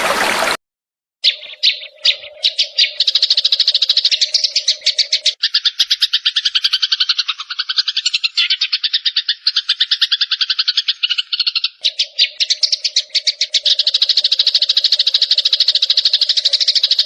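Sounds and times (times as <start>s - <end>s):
songbird chirps and trill: 1.2s - 17.0s.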